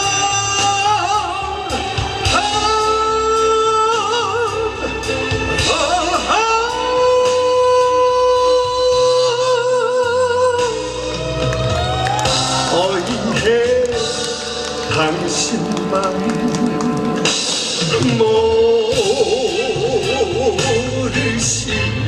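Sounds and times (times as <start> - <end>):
man singing slow song: 0.0 - 11.4, 12.4 - 22.0
instrumental accompaniment: 0.0 - 22.0.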